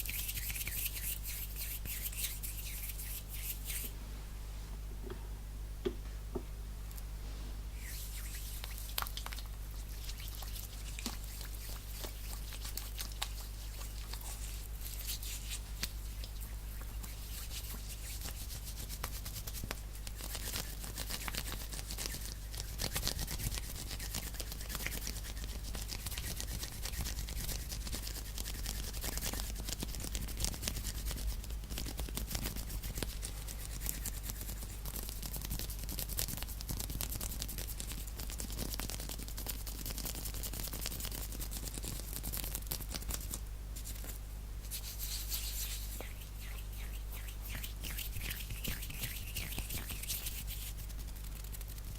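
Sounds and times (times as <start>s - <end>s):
hands rubbing close to microphone: 0.0s - 4.0s, 7.8s - 51.9s
steady low hum: 0.0s - 51.9s.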